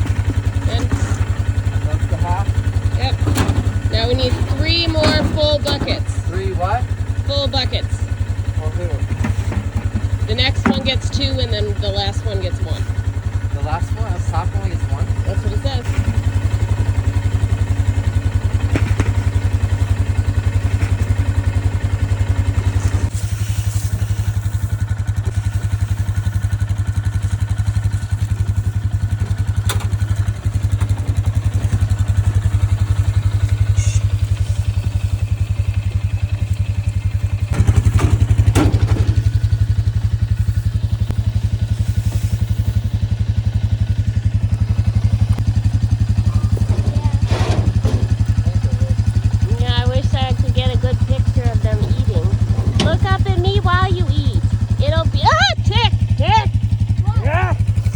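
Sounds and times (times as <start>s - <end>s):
small vehicle engine running: 0.0s - 57.9s.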